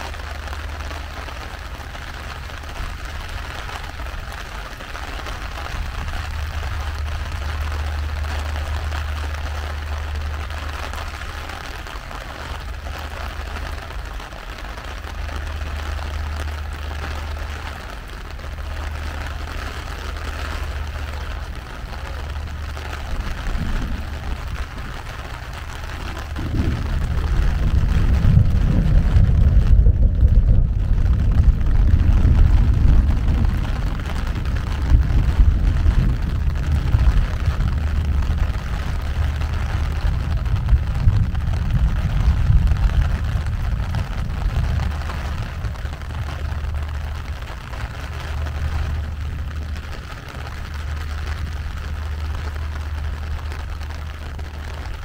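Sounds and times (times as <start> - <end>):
low jagged rumble: 0.0 - 55.0
rain falling: 0.0 - 55.0.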